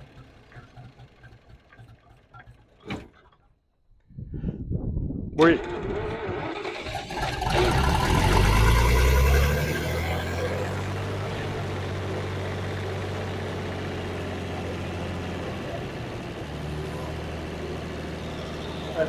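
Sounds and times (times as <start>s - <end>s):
combine engine running: 0.0s - 2.8s, 5.6s - 19.0s.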